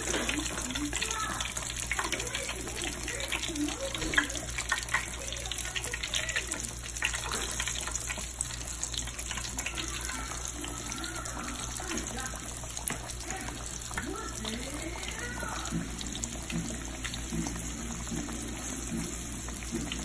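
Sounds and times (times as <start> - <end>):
steaks frying in hot oil: 0.0 - 20.0.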